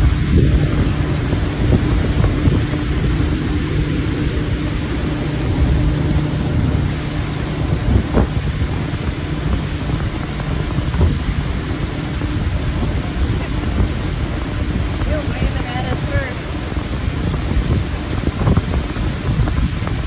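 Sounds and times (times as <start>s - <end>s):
boat motor humming: 0.0s - 20.0s
wind buffeting microphone: 0.0s - 20.0s.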